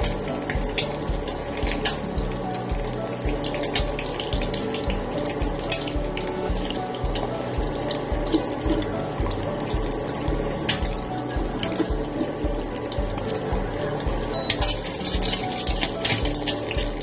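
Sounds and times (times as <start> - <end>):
background music with steady beat: 0.0 - 17.0
egg sizzling in hot oil: 0.0 - 17.0.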